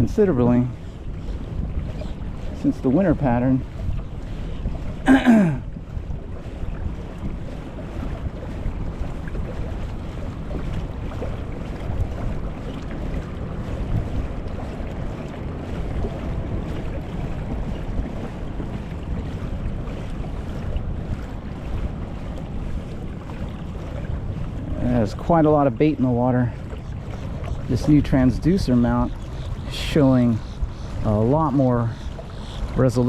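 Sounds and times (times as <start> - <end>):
water splashing against kayak hull: 0.0 - 33.0
wind buffeting microphone: 0.0 - 33.0.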